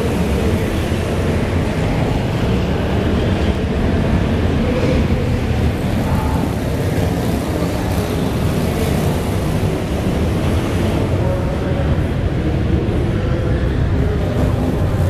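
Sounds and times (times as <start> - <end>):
small race car engines: 0.0 - 15.0.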